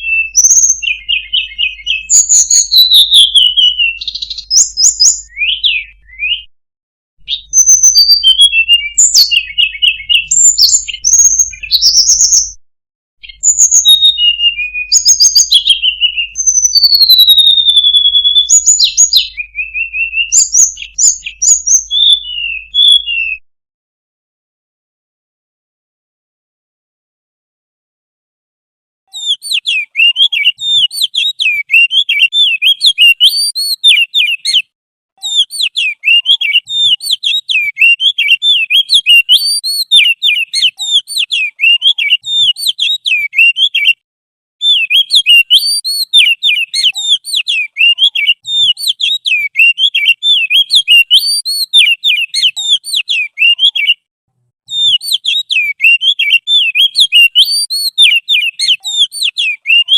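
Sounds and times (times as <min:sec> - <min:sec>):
songbird twittering: 0:00.0 - 0:06.5, 0:07.2 - 0:12.6, 0:13.2 - 0:23.4, 0:29.1 - 0:34.6, 0:35.2 - 0:44.0, 0:44.6 - 0:54.0, 0:54.7 - 0:59.9.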